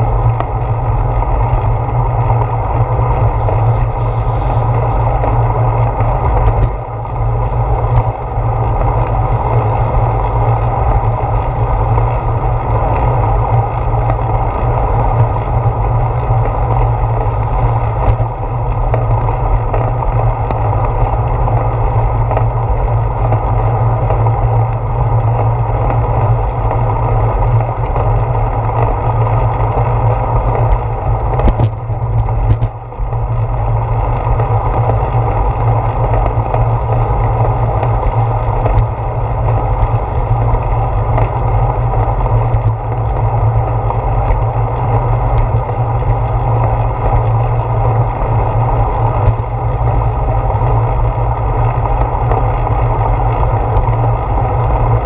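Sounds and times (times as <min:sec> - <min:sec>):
bicycle tyre vibration on concrete: 0:00.0 - 0:55.0
wind rumble: 0:00.0 - 0:55.0.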